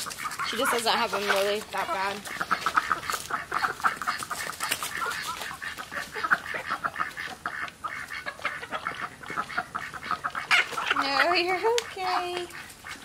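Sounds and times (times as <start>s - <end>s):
chickens clucking: 0.0s - 13.0s
ducks quacking: 0.0s - 13.0s.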